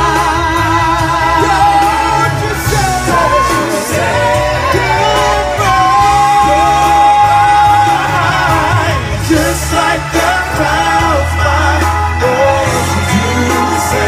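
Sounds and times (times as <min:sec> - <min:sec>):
bass and backing accompaniment: 0:00.0 - 0:14.0
pop ballad with solo voice: 0:00.0 - 0:14.0.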